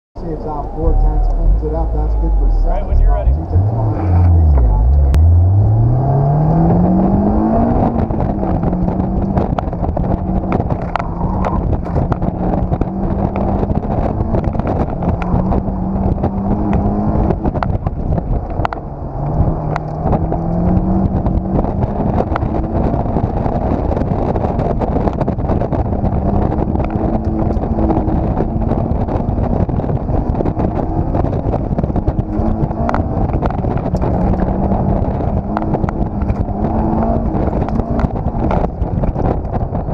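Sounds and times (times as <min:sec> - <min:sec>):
car engine accelerating: 0:00.2 - 0:39.9
wind rushing: 0:00.2 - 0:39.9.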